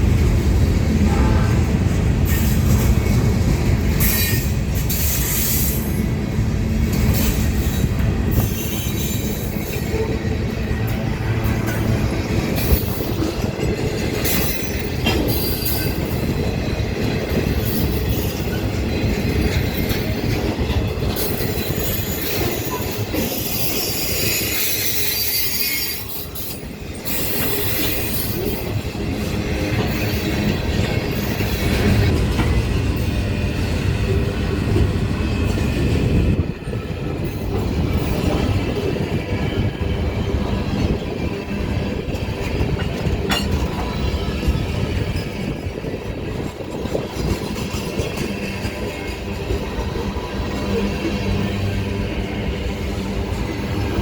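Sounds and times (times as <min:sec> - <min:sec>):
freight cars rumbling: 0:00.0 - 0:54.0
train wheels squealing: 0:02.2 - 0:06.1, 0:06.9 - 0:54.0.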